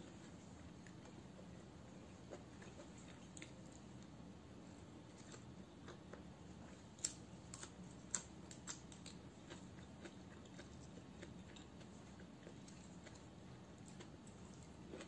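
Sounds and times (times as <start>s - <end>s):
chewing crisp leaves: 0.0s - 15.0s.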